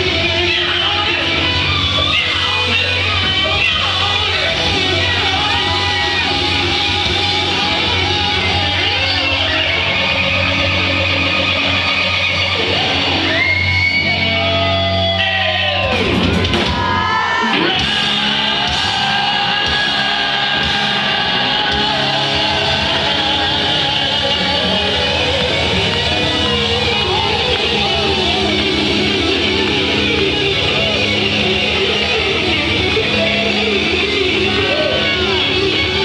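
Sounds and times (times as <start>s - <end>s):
electric guitar: 0.0s - 36.0s
live rock band playing: 0.0s - 36.0s.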